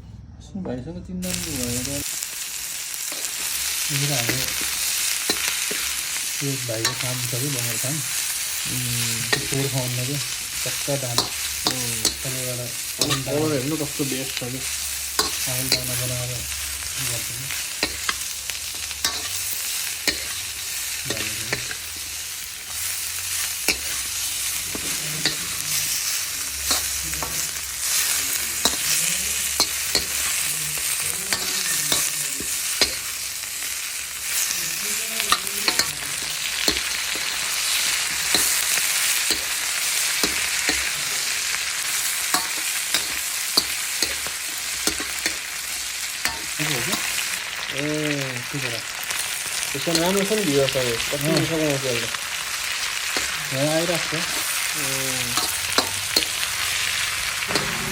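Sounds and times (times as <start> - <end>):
food sizzling in a pan: 1.2 - 57.9.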